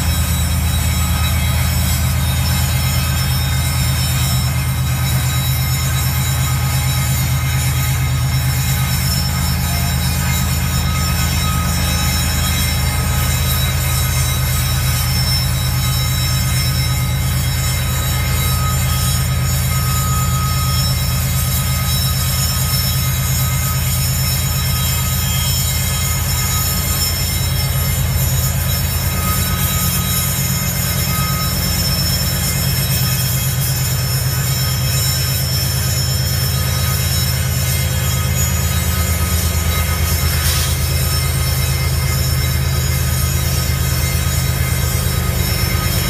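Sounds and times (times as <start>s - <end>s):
diesel locomotive engine rumble: 0.0s - 46.0s
wheels squealing and grinding on rail: 0.0s - 46.0s.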